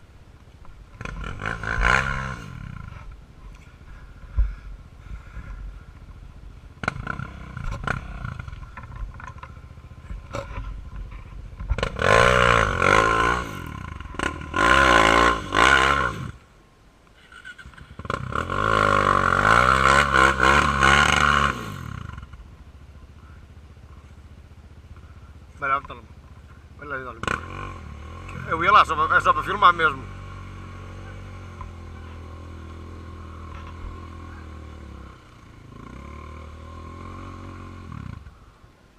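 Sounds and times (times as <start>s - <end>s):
atv engine revving: 0.0s - 16.5s, 17.2s - 38.6s.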